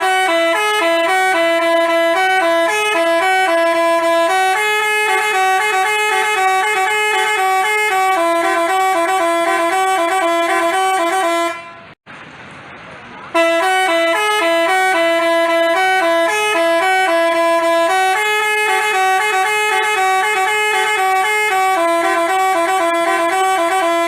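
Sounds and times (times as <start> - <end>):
multi-tone bus horn melody: 0.0 - 12.0, 13.3 - 24.0.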